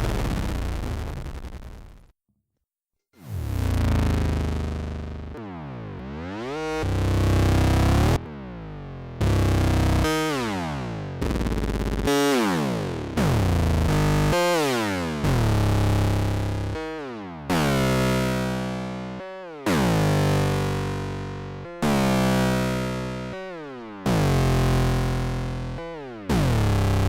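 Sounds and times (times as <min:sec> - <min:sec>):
analog synthesizer notes: 0:03.2 - 0:27.0.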